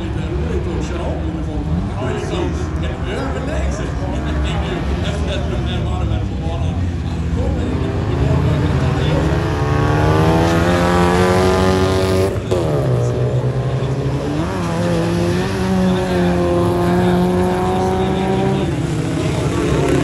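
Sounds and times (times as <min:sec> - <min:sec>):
race car engines at high revs: 0:00.0 - 0:20.0.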